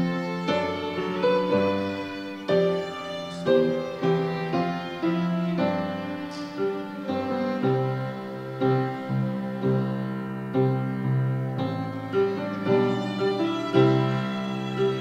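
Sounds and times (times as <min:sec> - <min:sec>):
bowed violin notes: 0:00.0 - 0:15.0
piano notes: 0:00.0 - 0:15.0.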